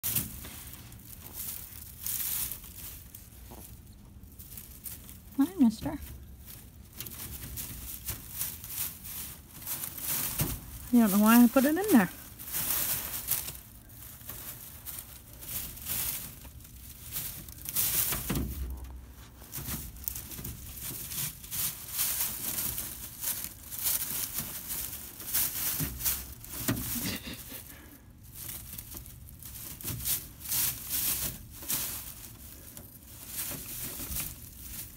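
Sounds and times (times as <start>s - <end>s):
straw bedding rustling: 0.0s - 34.9s.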